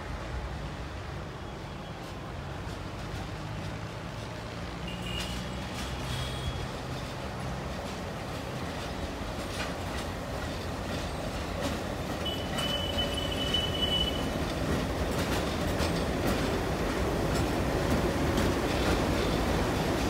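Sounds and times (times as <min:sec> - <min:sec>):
diesel locomotive engines working: 0:00.0 - 0:20.0
wheels clicking over rail joints: 0:02.6 - 0:20.0.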